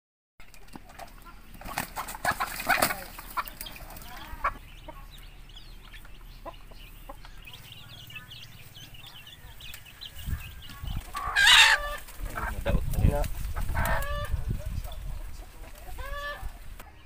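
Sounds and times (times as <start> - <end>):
scuffling and wing-flapping: 0.4 - 5.2, 5.9 - 17.0
chickens clucking and squawking: 0.4 - 17.0.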